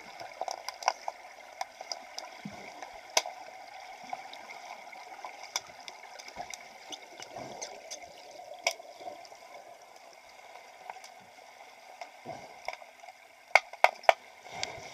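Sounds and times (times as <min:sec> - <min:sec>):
underwater bubbling and hiss: 0:00.0 - 0:14.9.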